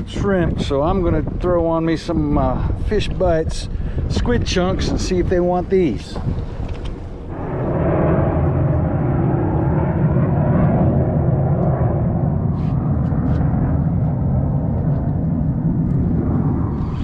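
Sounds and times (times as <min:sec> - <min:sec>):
jet aircraft rumbling overhead: 0:00.0 - 0:17.0.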